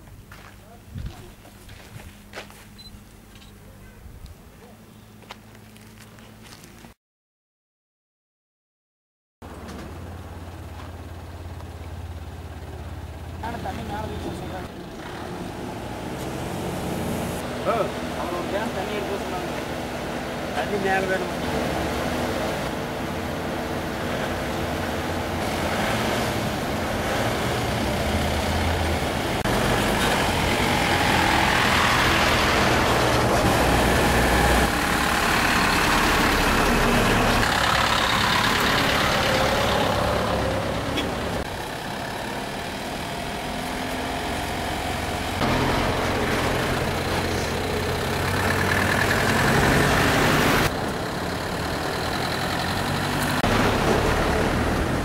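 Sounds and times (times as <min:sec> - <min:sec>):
bus engines driving past: 0:09.4 - 0:55.0.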